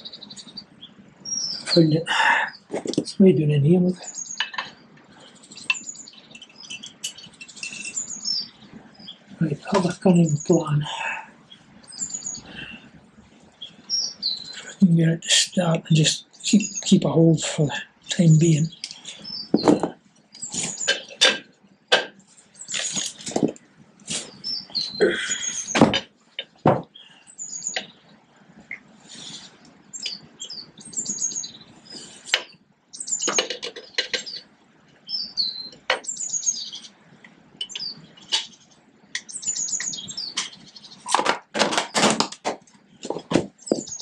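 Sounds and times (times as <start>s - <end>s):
small bird chirping and singing: 0.0s - 21.4s, 22.3s - 41.2s, 43.0s - 44.0s.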